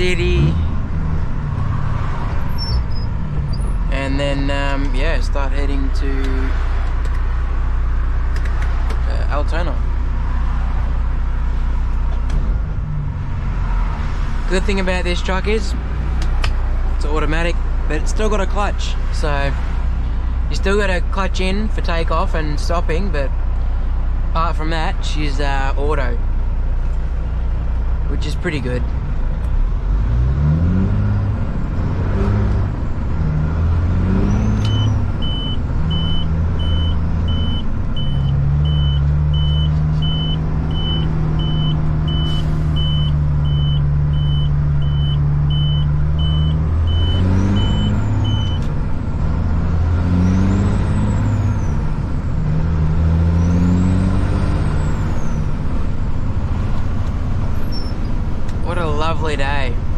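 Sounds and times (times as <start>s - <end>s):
truck diesel engine accelerating: 0.0s - 59.9s.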